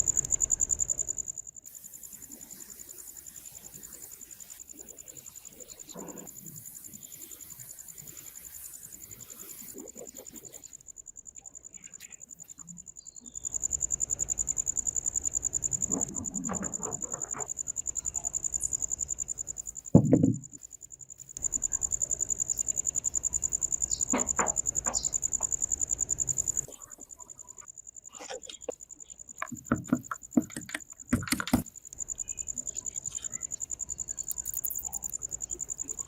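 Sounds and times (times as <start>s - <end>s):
cricket trilling: 0.0s - 36.0s.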